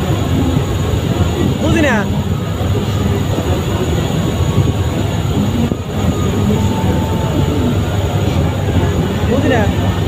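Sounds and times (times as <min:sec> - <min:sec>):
diesel boat engine rumbling: 0:00.0 - 0:10.0.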